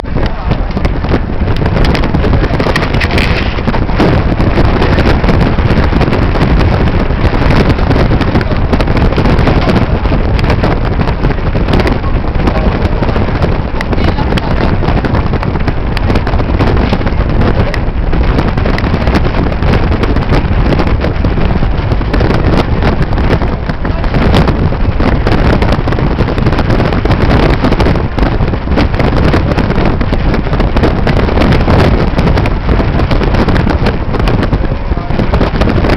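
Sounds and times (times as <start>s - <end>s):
wind buffeting the microphone: 0.0s - 35.9s.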